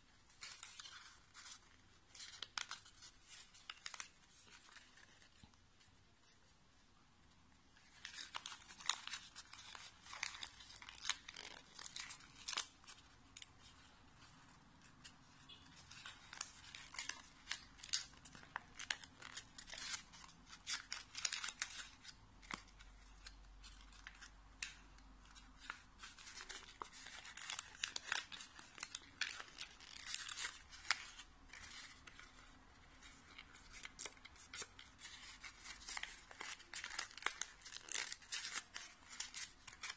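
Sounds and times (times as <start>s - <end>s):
paper crinkling and crackling: 0.0s - 6.4s, 7.8s - 39.9s.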